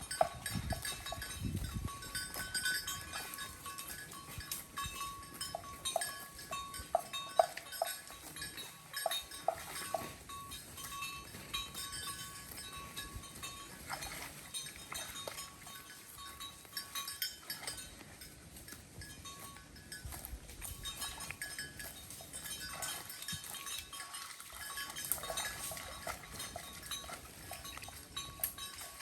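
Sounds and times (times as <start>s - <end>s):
cow bells clinking: 0.0s - 29.0s.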